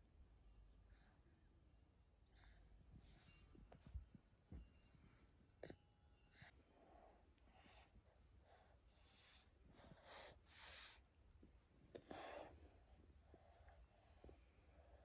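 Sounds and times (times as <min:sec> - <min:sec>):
faint soft breaths: 0:00.4 - 0:15.0.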